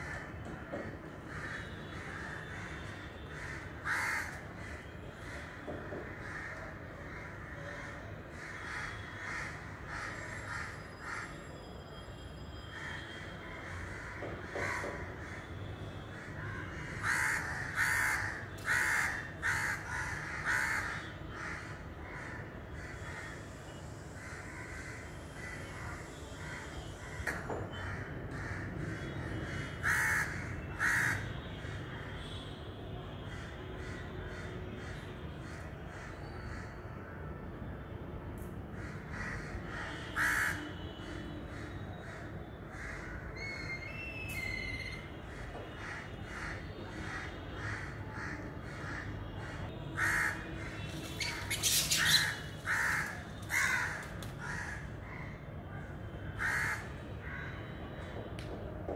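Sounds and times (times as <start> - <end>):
crows cawing: 0.0 - 11.4, 12.7 - 23.6, 24.2 - 32.1, 33.3 - 37.2, 38.8 - 43.6, 44.8 - 57.8.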